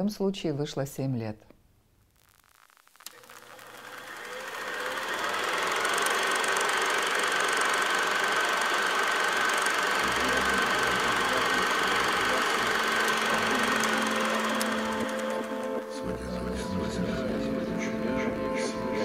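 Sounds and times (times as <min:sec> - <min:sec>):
thin steady whine: 0:02.0 - 0:19.0
film projector whirring: 0:02.2 - 0:18.1.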